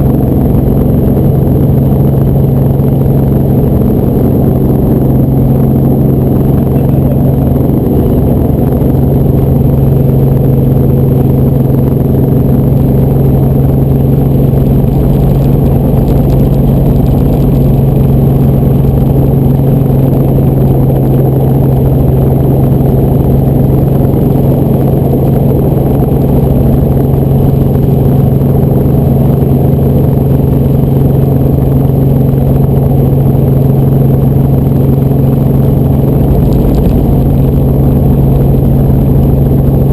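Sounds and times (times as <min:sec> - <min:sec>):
helicopter engine and rotors drone: 0:00.0 - 0:39.9.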